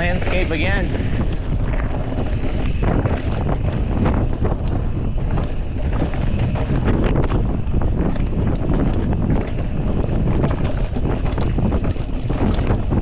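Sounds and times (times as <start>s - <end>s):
rattles and knocks: 0.0s - 13.0s
steady low rumble: 0.0s - 13.0s
wind buffeting microphone: 0.0s - 13.0s.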